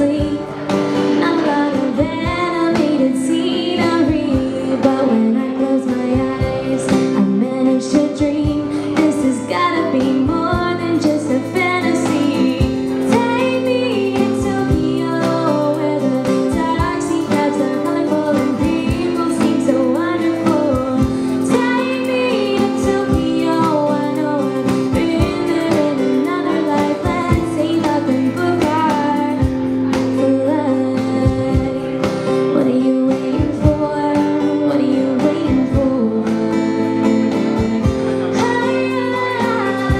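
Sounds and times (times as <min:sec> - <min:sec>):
strummed acoustic guitar: 0:00.0 - 0:39.9
woman singing: 0:00.0 - 0:39.9.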